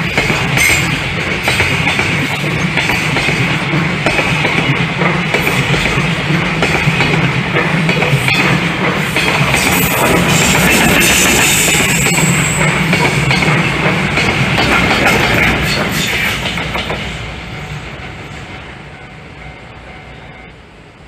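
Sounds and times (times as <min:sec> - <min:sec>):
wheels clicking over rail joints: 0:00.0 - 0:17.1
freight train wagons rolling: 0:00.0 - 0:21.0.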